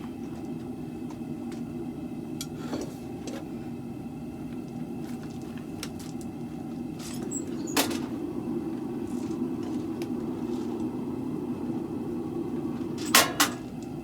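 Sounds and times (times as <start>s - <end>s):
forge burner roaring: 0.0s - 14.0s.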